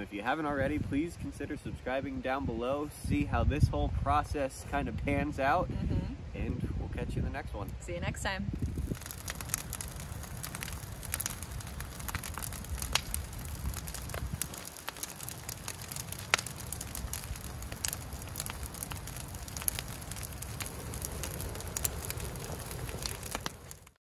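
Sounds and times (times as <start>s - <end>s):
bonfire crackling: 0.0s - 6.5s, 8.1s - 24.0s.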